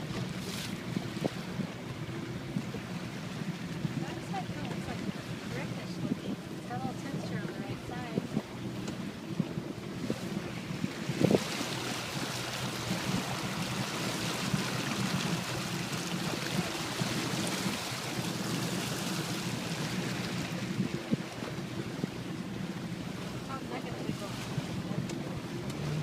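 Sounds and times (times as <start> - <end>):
boat engine hum: 0.0 - 26.0
water rushing along hull: 0.0 - 26.0.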